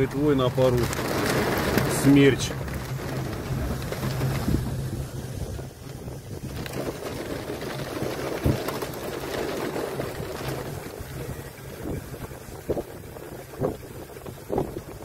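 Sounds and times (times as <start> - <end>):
wind buffeting microphone: 0.0 - 15.0
low hum: 0.7 - 13.3
gusts thumping on microphone: 0.7 - 15.0.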